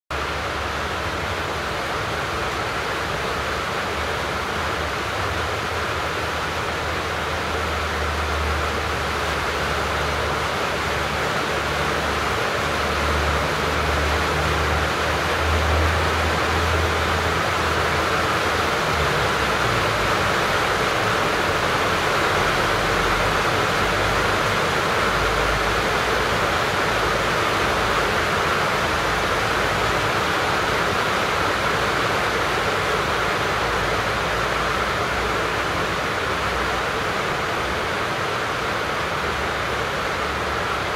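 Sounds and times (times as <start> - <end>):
rain on roofs and streets: 0.1 - 40.9.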